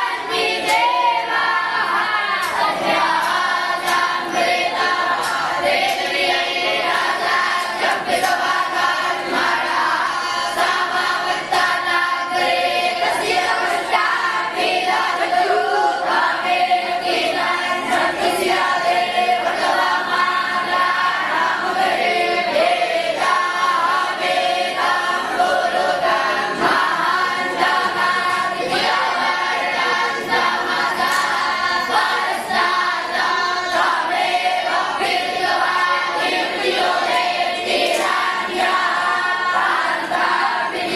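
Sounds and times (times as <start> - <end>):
choir singing in unison: 0.0 - 40.9.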